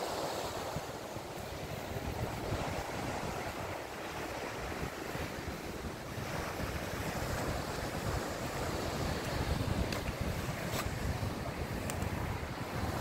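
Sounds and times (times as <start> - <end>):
waves washing onto beach: 0.0 - 13.0
wind buffeting microphone: 0.0 - 13.0.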